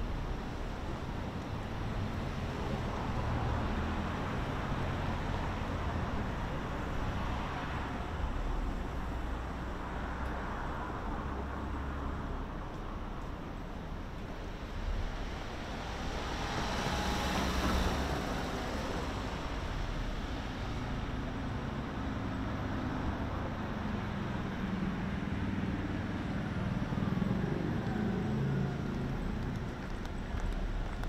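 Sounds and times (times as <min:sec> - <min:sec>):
low traffic engine hum: 0:00.0 - 0:31.0.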